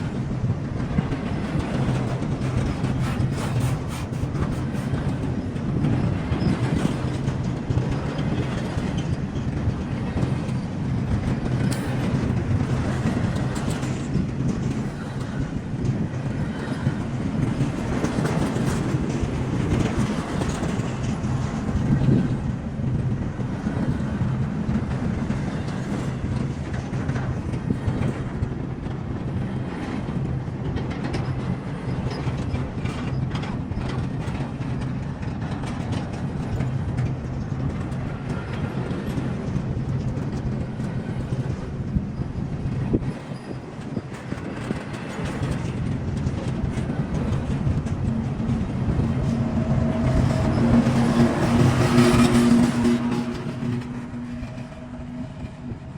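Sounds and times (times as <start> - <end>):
train rolling on rails: 0.0 - 55.9.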